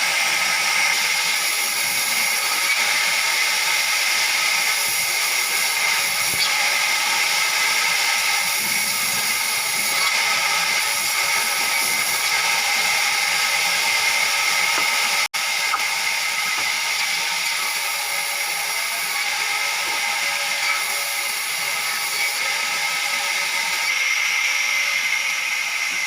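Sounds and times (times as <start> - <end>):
power saw whining: 0.0 - 26.0.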